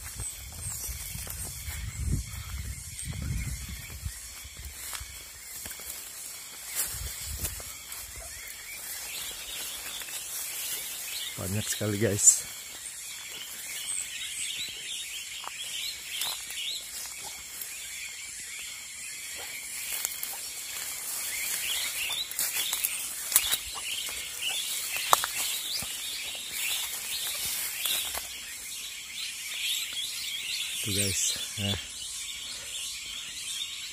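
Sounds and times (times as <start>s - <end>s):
flock of small birds chirping: 0.0s - 33.9s.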